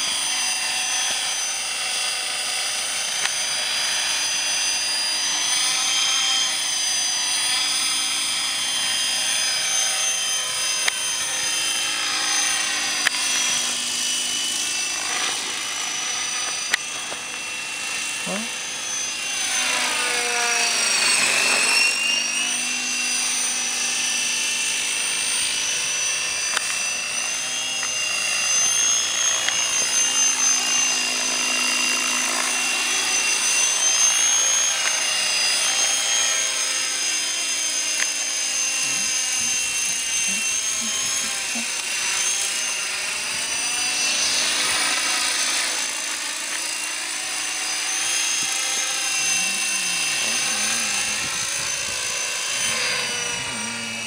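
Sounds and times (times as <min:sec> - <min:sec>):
rc helicopter whine: 0:00.0 - 0:54.0.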